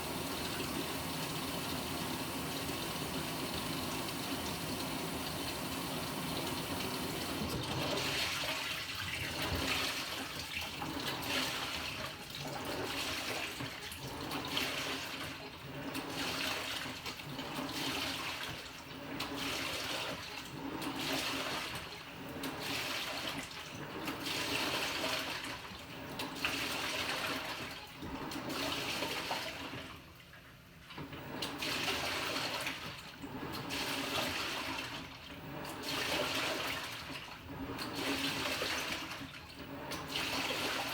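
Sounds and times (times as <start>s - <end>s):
water sloshing in washing machine: 0.0s - 40.9s.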